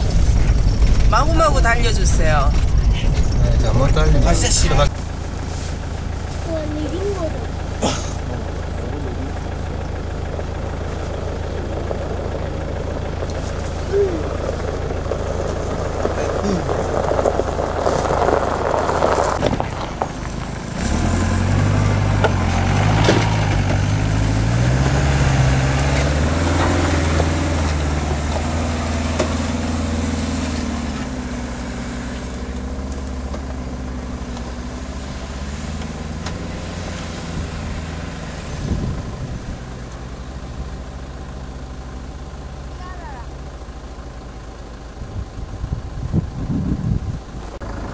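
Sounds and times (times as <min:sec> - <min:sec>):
engine revving under load: 0:00.0 - 0:43.5.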